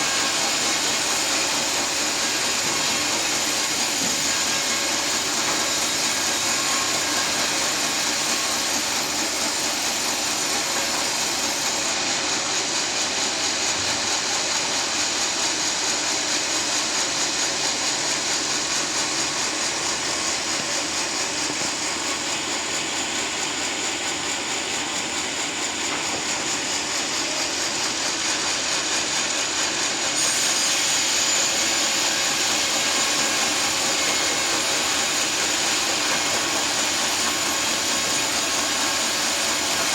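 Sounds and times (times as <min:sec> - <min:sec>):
sawmill blade sawing log: 0:00.0 - 0:39.9.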